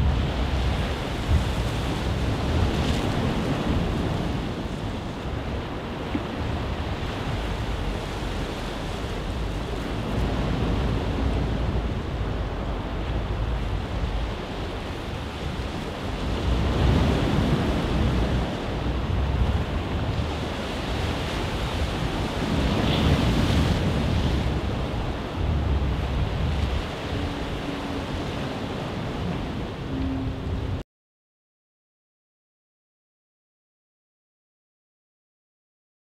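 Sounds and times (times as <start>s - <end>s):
waves washing ashore: 0.0s - 30.8s
wind rumble on microphone: 0.0s - 30.8s.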